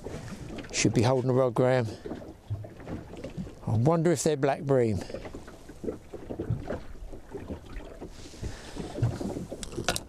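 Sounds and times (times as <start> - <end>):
water slapping against boat hull: 0.0 - 10.0.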